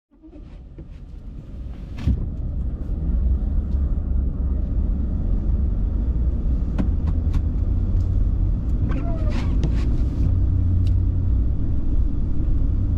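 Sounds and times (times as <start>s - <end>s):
car engine and road rumble: 0.1s - 12.9s.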